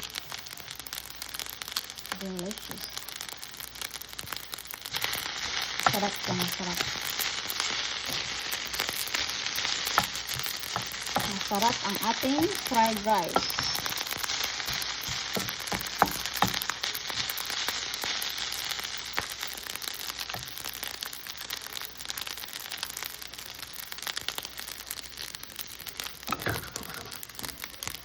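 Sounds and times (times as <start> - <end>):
rice sizzling in a pan: 0.0 - 28.0.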